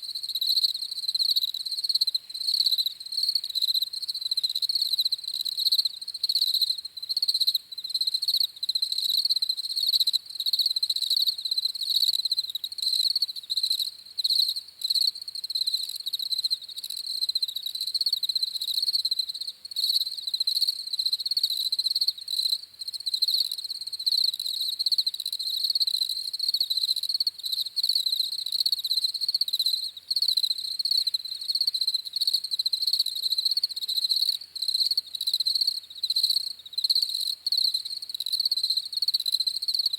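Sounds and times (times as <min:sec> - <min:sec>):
crickets chirping: 0:00.2 - 0:39.9.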